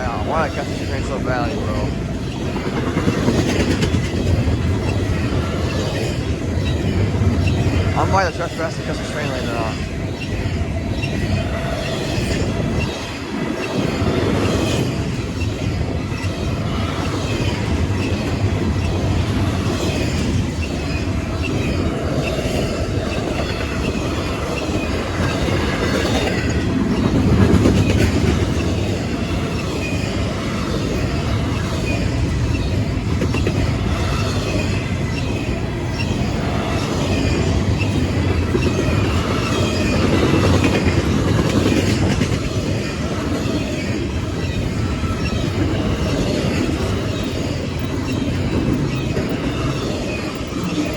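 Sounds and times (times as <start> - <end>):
freight train wheels clattering: 0.0 - 50.9.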